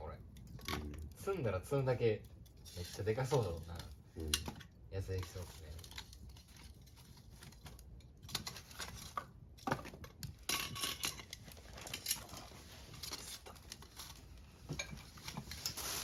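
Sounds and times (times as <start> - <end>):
campfire crackling: 0.0 - 14.5.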